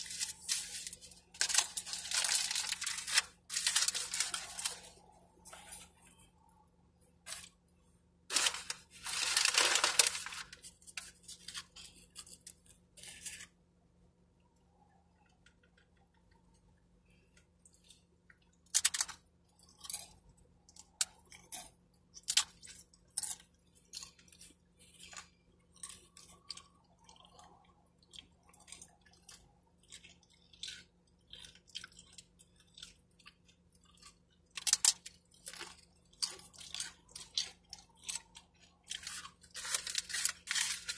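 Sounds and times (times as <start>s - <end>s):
crunching tortilla chips: 0.0s - 6.4s, 8.3s - 13.6s, 17.7s - 40.9s.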